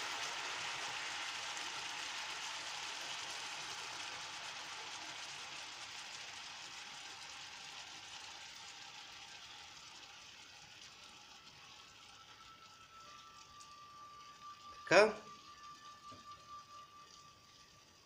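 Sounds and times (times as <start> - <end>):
oil sizzling in a frying pan: 0.0 - 18.0.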